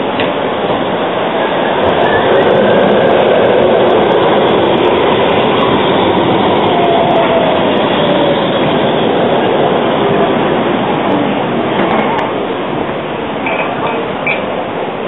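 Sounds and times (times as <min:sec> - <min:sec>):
tram wheels rolling on track: 0:00.0 - 0:15.0.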